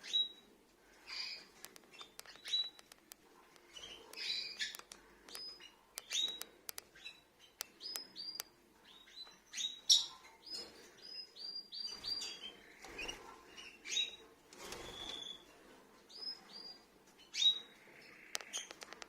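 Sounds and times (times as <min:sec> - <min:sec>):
lovebirds chirping: 0:00.0 - 0:15.5, 0:16.1 - 0:19.0.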